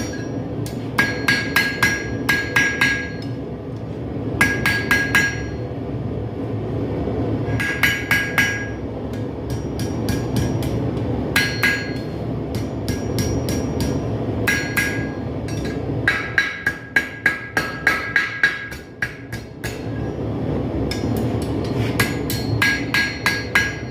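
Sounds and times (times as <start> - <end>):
hammer striking steel on anvil: 0.0 - 3.4, 4.4 - 5.6, 7.5 - 20.1, 20.8 - 23.9.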